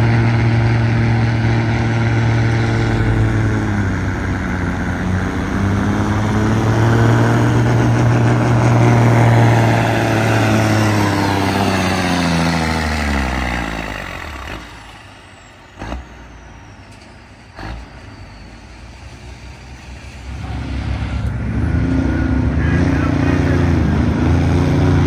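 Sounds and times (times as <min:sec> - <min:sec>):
diesel truck engine: 0:00.0 - 0:25.0.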